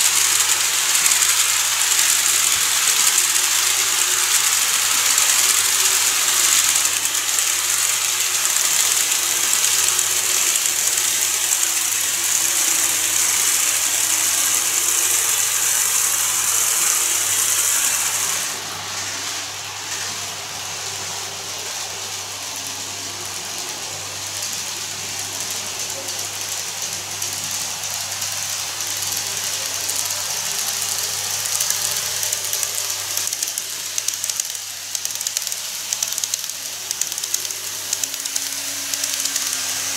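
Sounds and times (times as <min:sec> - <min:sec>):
model train motors whining: 0:00.0 - 0:39.9.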